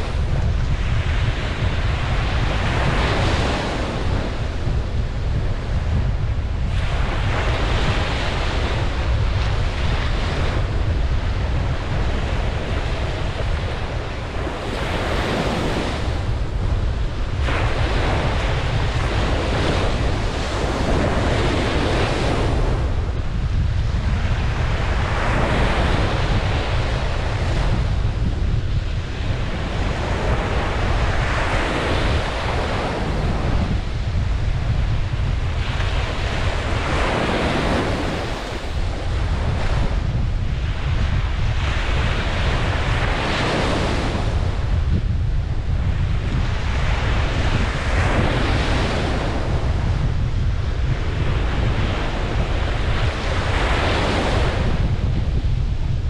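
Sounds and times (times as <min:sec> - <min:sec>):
ocean waves breaking: 0:00.0 - 0:55.8
steady low rumble: 0:00.0 - 0:56.0
wind buffeting the microphone: 0:00.0 - 0:56.0.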